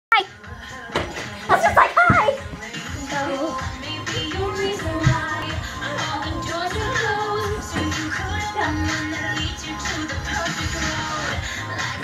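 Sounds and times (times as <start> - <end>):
music with singing voice: 0.1 - 12.0.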